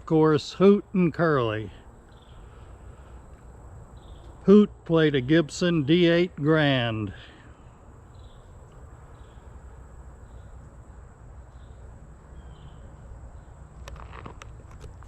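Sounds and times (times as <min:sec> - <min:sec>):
faint insect chirps: 0:01.2 - 0:15.0.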